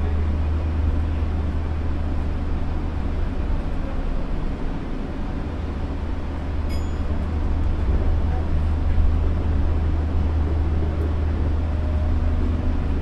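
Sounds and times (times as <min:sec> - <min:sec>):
monorail train rumbling: 0:00.0 - 0:13.0.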